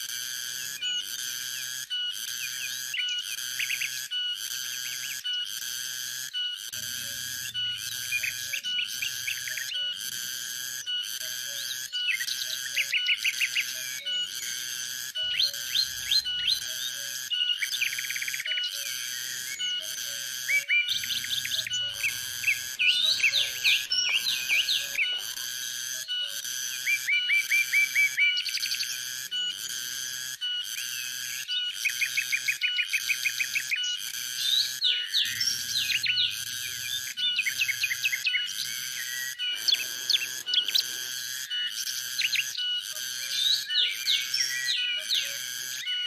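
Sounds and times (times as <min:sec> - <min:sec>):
cicadas pulsing buzz: 0:00.0 - 0:46.0
birds chirping and whistling: 0:00.6 - 0:05.5, 0:06.4 - 0:10.1, 0:10.7 - 0:29.7, 0:30.4 - 0:46.0.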